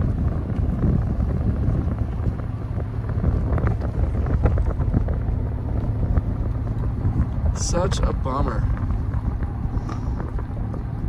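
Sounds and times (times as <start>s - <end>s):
car driving rumble: 0.0s - 11.0s
wind buffeting microphone: 0.0s - 11.0s.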